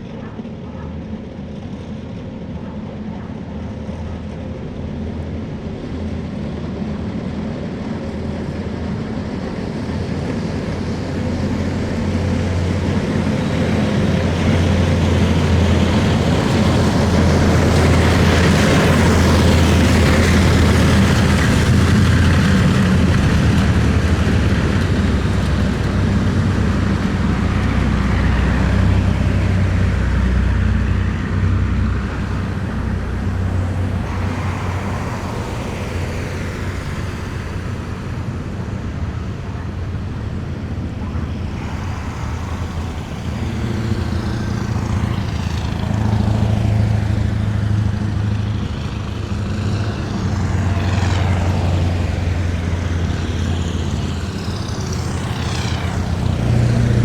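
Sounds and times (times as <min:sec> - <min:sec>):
heavy vehicle engines droning: 0:00.0 - 0:57.0
vehicles whooshing past: 0:09.5 - 0:57.0.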